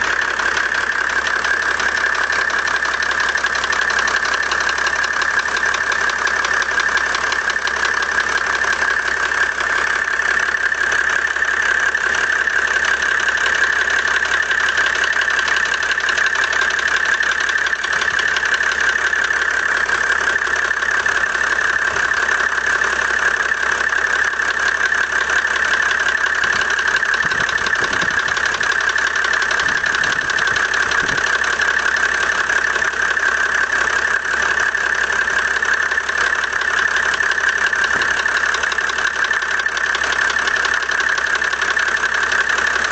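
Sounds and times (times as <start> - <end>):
diesel engine idling: 0.0 - 42.9
rapid engine ticking: 0.0 - 42.9.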